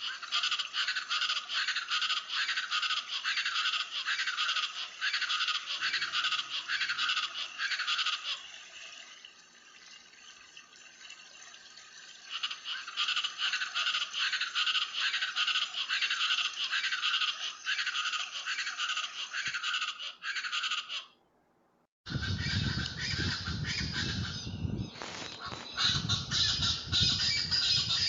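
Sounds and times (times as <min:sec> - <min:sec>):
birds calling in harsh chorus: 0:00.0 - 0:08.4, 0:12.4 - 0:21.1, 0:22.1 - 0:28.0.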